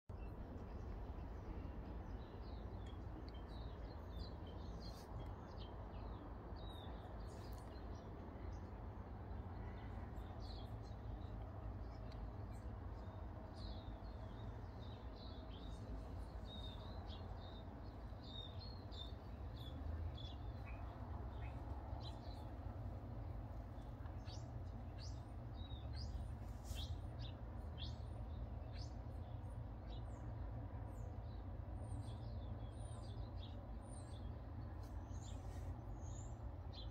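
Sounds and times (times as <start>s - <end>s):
low background rumble: 0.1s - 36.9s
songbirds chirping: 0.1s - 36.9s.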